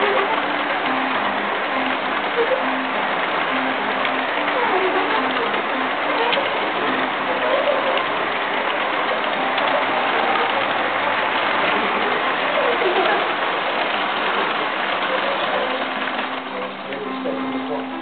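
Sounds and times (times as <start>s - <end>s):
faint blues music: 0.0s - 18.0s
model train wheels clattering: 0.0s - 18.0s.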